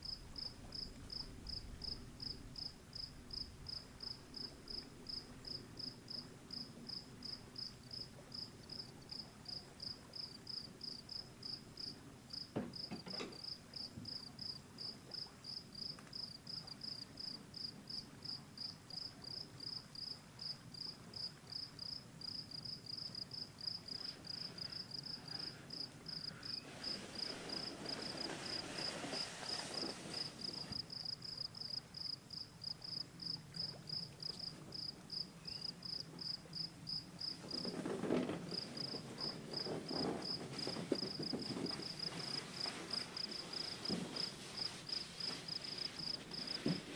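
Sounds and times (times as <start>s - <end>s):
crickets chirping: 0.0s - 46.9s.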